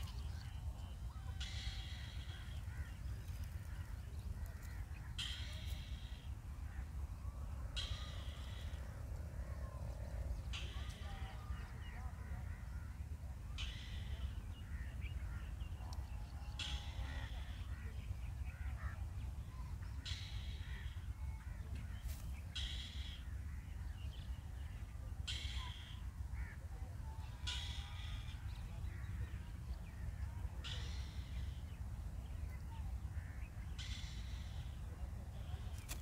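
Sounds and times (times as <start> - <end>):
bird harsh calls: 0.0 - 26.6, 27.2 - 36.0
steady low rumble: 0.0 - 35.9.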